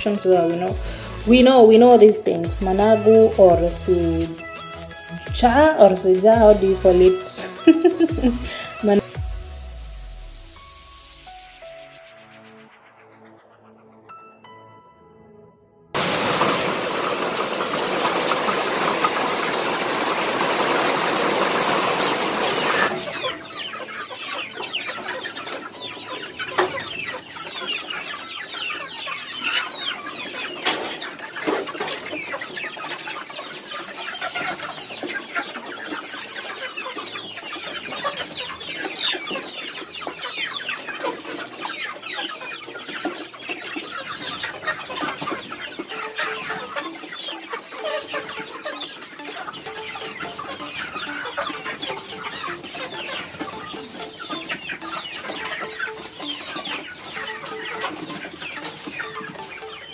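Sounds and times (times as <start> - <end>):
chicks cheeping and clucking: 0.0 - 13.9, 16.0 - 59.9.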